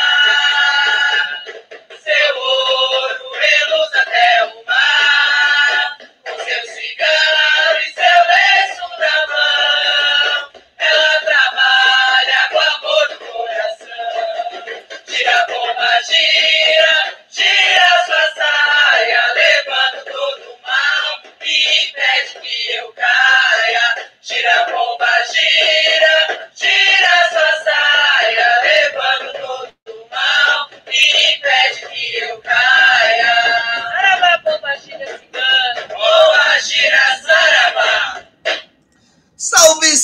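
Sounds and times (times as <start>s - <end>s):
choir-like singing over music: 0.0s - 38.7s.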